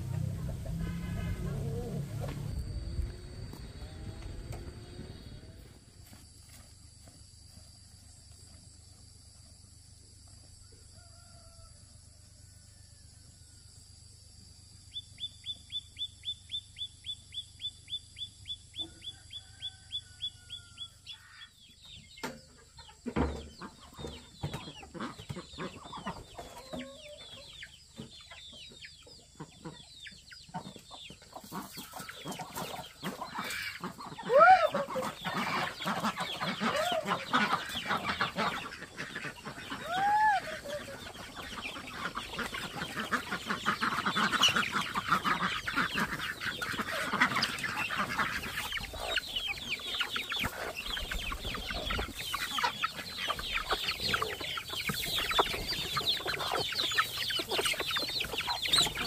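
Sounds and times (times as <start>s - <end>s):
chickens clucking: 0.0s - 6.6s, 15.2s - 59.0s.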